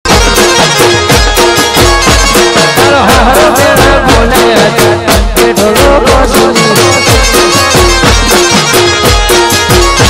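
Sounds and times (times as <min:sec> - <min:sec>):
folk music with percussion: 0:00.0 - 0:10.0.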